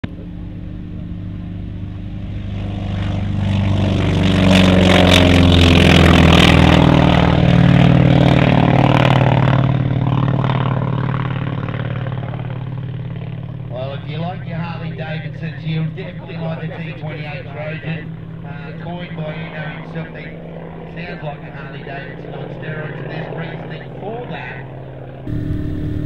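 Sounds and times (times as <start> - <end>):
radial aircraft engine at full power: 0.0 - 26.0.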